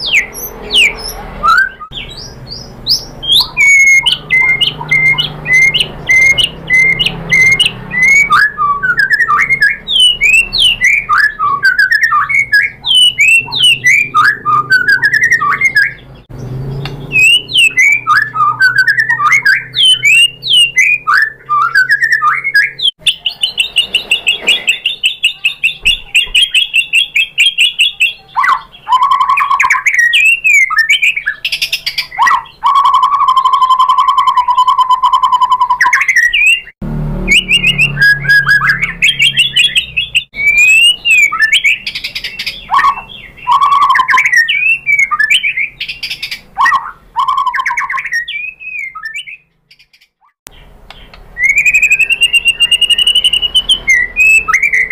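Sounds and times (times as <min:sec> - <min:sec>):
bird singing: 0:00.0 - 0:54.9.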